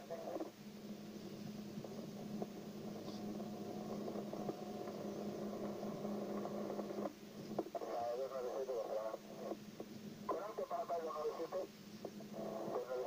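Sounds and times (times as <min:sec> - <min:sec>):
low electrical hum: 0:00.0 - 0:13.0
radio channel hiss: 0:00.0 - 0:13.0.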